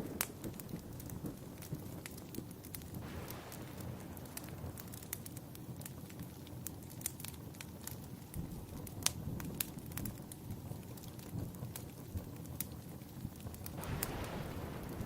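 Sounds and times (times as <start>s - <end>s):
low rumble of flames: 0.0s - 15.0s
sharp pops of fire: 0.0s - 15.0s
wood fire crackling: 0.0s - 15.0s.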